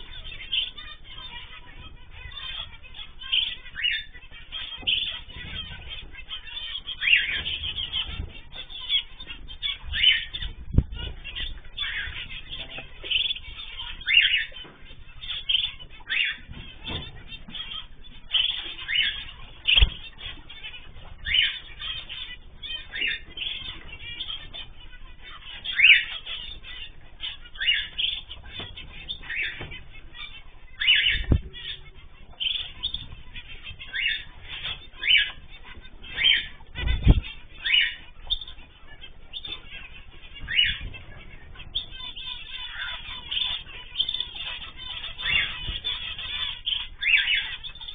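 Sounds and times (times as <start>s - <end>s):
finches chirping: 0.0s - 47.9s.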